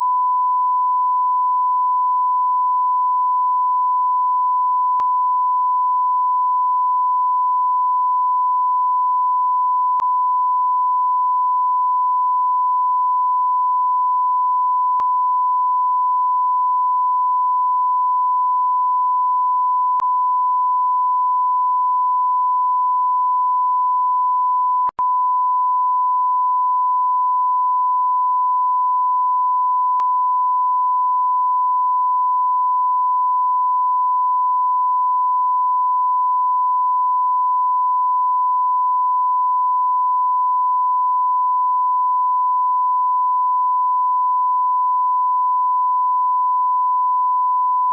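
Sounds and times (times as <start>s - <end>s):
continuous bleep tone: 0.0s - 47.9s.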